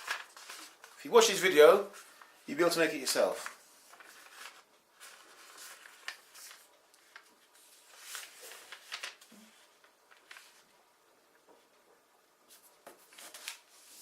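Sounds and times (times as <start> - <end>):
paper rustling and folding: 0.0 - 10.8, 12.4 - 14.0.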